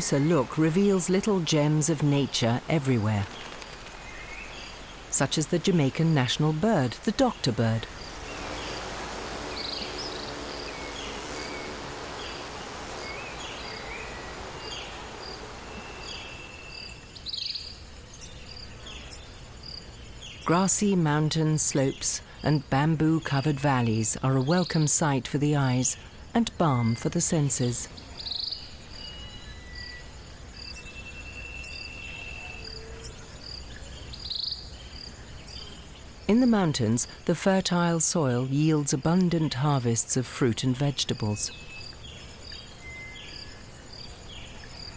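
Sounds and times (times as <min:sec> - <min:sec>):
small birds chirping: 0:00.0 - 0:44.9
insect hiss: 0:03.2 - 0:07.0, 0:07.8 - 0:22.6, 0:23.2 - 0:37.4, 0:41.4 - 0:44.9.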